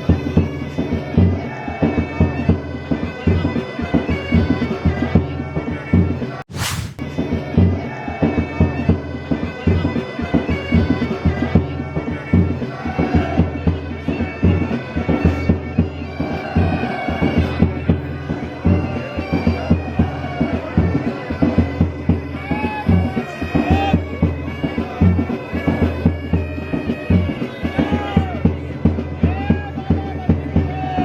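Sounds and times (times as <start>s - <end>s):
bagpipes with drone: 0.0s - 5.9s, 8.2s - 31.0s.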